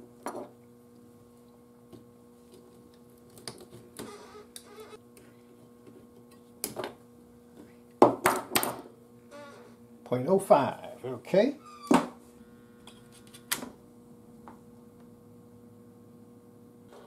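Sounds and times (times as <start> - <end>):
steady low hum: 0.0 - 8.2, 8.8 - 17.0.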